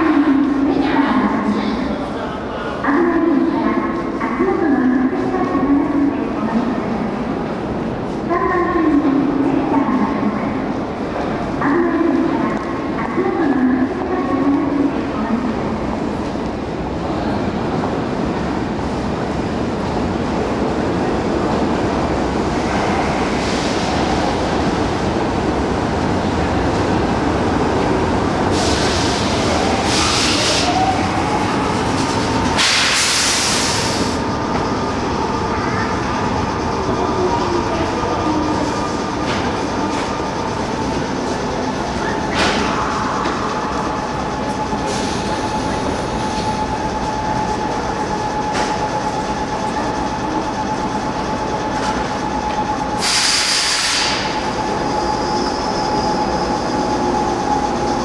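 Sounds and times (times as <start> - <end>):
subway train rumbling on rails: 0.0 - 58.0.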